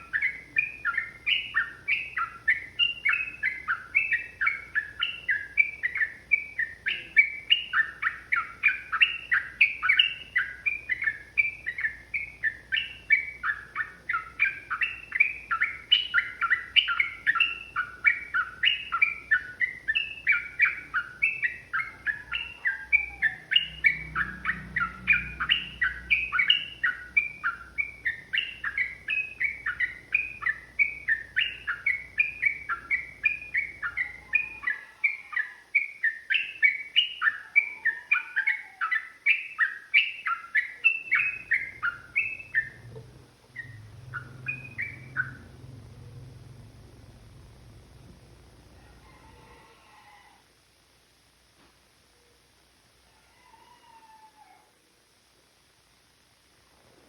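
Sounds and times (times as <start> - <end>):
bird chattering song: 0.0 - 47.6.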